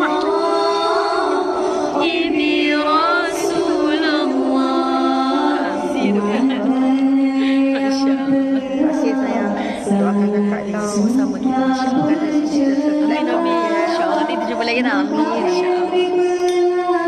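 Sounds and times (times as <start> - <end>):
voices singing slow chant: 0.0 - 17.0.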